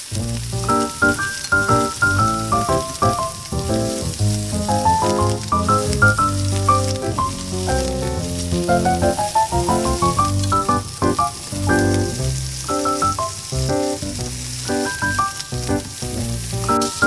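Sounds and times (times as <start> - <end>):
background music with bass: 0.0 - 12.7, 13.6 - 16.8
food sizzling in a frying pan: 0.0 - 17.0.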